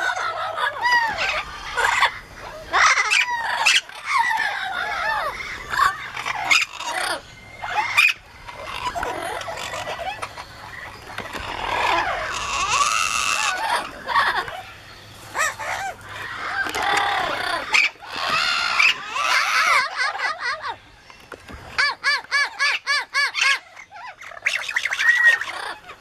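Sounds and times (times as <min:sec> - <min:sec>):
parrots screaming and squawking: 0:00.0 - 0:26.0.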